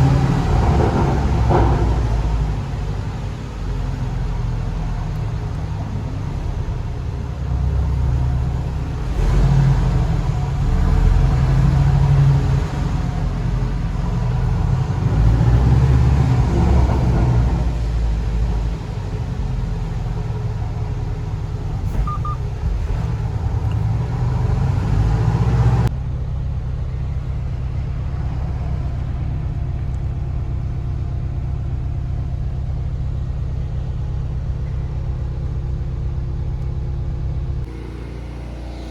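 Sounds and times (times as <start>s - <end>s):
car rumble: 0.0s - 38.9s.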